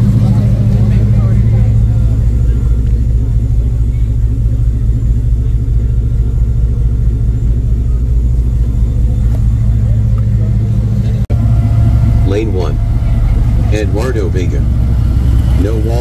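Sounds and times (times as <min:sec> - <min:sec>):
loud pulsing subwoofer bass: 0:00.0 - 0:16.0.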